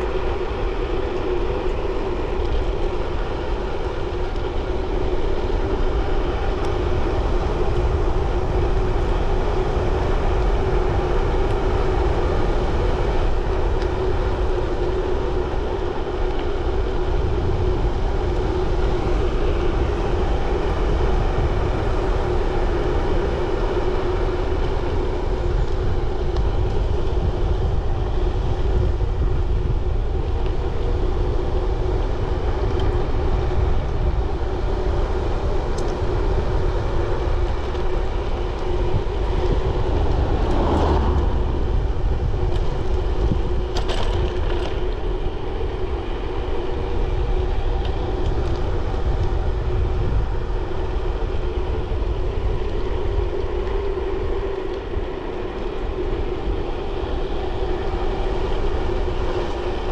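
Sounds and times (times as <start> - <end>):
wind rushing over microphone: 0.0 - 59.9
tyres rolling on road: 0.1 - 59.9.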